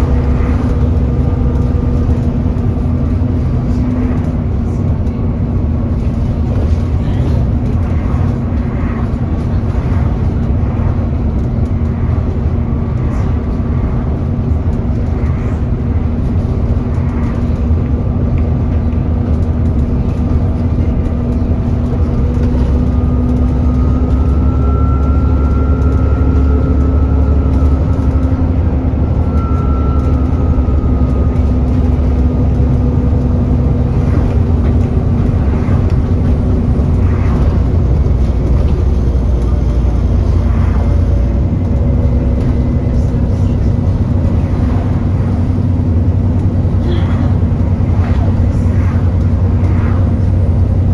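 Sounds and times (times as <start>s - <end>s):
bus diesel engine drone: 0.0s - 50.9s.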